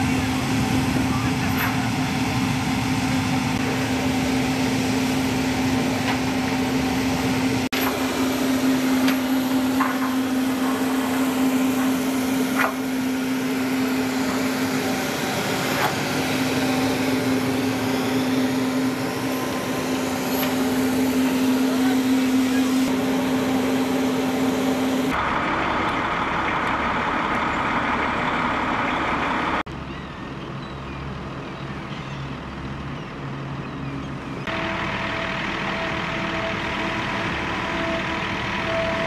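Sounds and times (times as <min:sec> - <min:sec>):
hovercraft turbines droning: 0:00.0 - 0:39.0.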